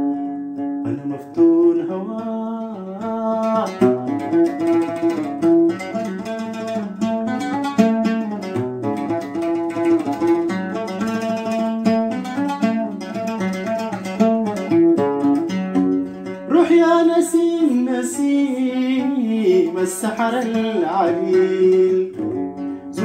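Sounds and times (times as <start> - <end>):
plucked string instrument melody: 0.0 - 23.0.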